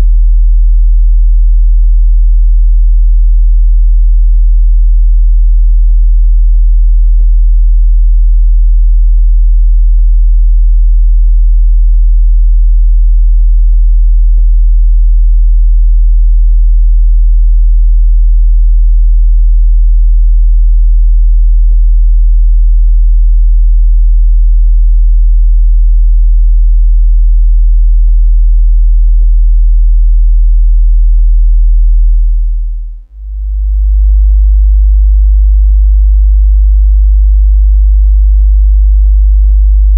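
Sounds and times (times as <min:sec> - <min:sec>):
sine-wave bass test tone: 0:00.0 - 0:39.9.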